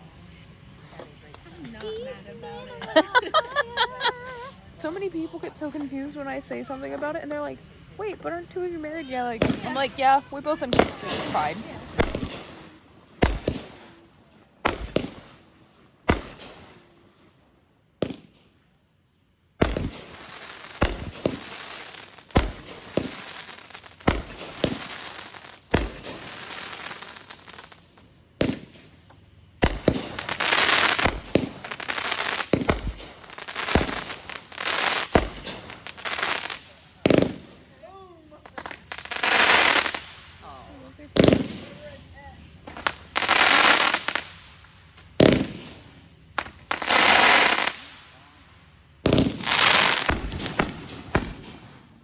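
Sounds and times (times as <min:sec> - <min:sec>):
fireworks crackling: 0:00.0 - 0:17.3, 0:18.0 - 0:18.6, 0:19.6 - 0:52.0
fireworks booming: 0:00.0 - 0:17.4, 0:18.0 - 0:18.6, 0:19.6 - 0:52.0.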